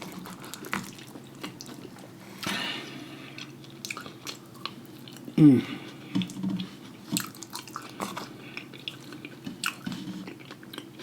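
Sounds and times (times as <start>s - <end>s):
wet chewing and lip-smacking: 0.0s - 2.1s, 3.3s - 5.4s, 6.2s - 11.0s.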